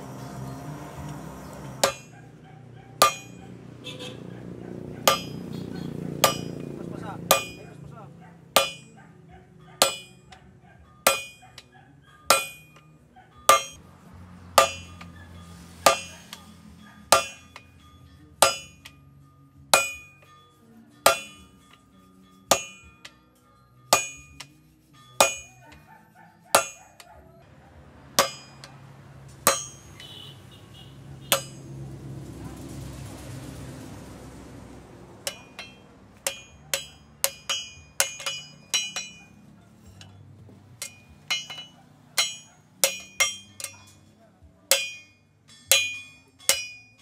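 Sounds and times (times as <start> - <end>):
sledgehammer striking chisel on steel: 0.0 - 2.2, 3.0 - 4.2, 5.0 - 9.1, 9.7 - 11.7, 12.3 - 19.0, 19.7 - 23.2, 23.9 - 27.2, 28.1 - 32.0, 35.2 - 47.0.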